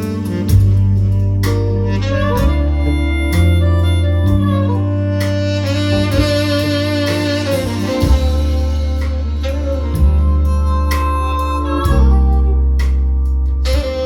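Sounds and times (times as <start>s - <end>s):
instrumental music with heavy bass: 0.0s - 14.0s.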